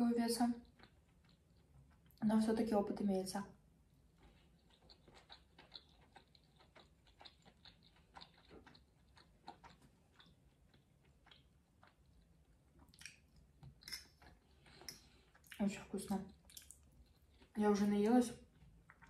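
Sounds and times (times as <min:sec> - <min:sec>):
faint chewing: 0:00.4 - 0:02.2, 0:03.8 - 0:17.6, 0:18.3 - 0:19.0.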